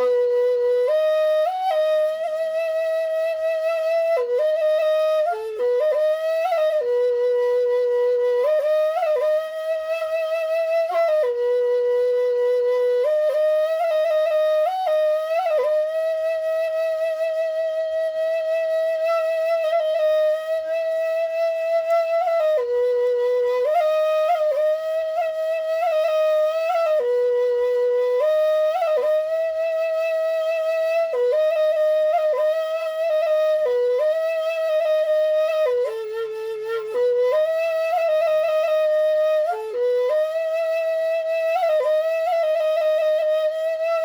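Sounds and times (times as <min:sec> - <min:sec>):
bamboo flute slow melody: 0:00.0 - 0:44.0.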